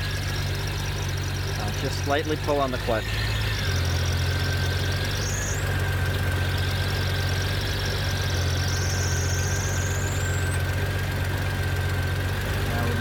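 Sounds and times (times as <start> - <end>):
faint high clutch whine: 0.0 - 13.0
motorcycle engine idling: 0.0 - 13.0.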